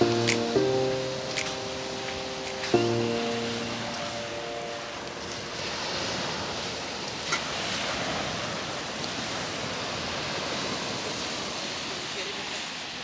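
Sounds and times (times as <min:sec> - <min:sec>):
waves washing up pebble beach: 0:00.0 - 0:13.0.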